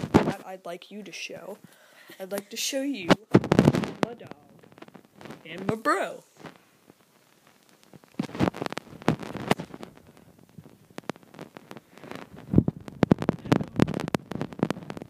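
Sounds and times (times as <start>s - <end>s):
microphone crackle: 0.0s - 0.6s, 1.3s - 15.0s.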